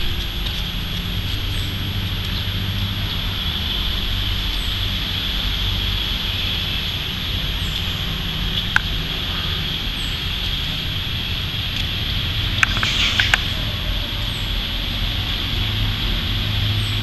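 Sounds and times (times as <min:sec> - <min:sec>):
constant low rumble: 0:00.0 - 0:17.0
steady high-pitched drone: 0:00.0 - 0:17.0.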